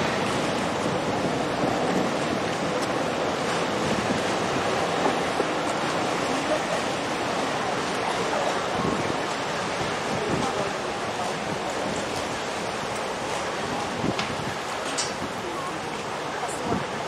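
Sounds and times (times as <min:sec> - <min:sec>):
choppy river water rushing: 0:00.0 - 0:17.0
wind: 0:00.0 - 0:17.0.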